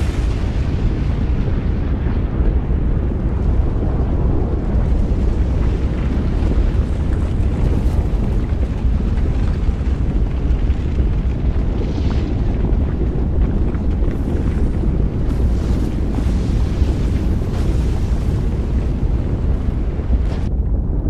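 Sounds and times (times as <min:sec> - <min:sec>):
deep rumble: 0:00.0 - 0:21.0.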